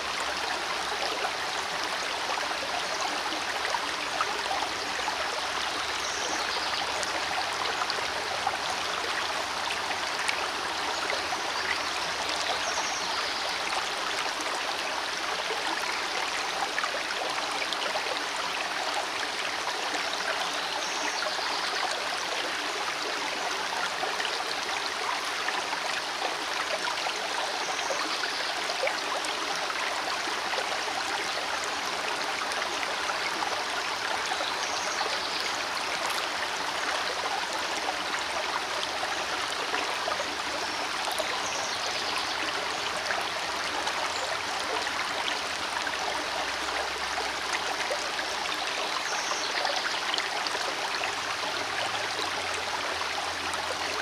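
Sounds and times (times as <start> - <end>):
creek water rushing over stones: 0.0 - 54.0.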